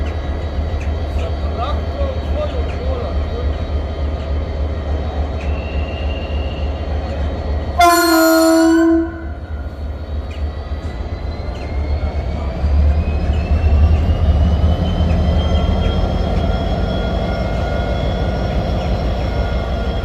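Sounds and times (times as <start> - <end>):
diesel locomotive rumble: 0.0 - 20.0.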